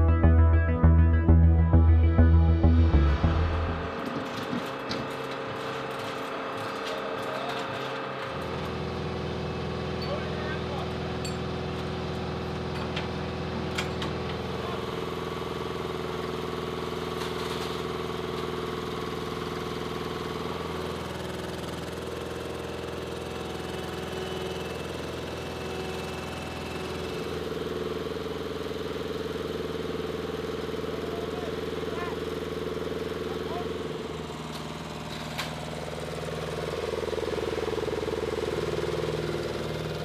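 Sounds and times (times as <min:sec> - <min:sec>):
lift truck engine running: 0:00.0 - 0:40.0.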